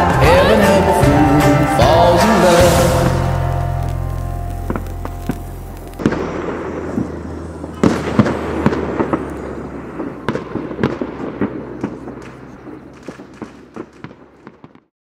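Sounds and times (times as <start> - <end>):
fireworks crackling hiss: 0.0 - 14.8
firecracker bangs: 0.0 - 14.9.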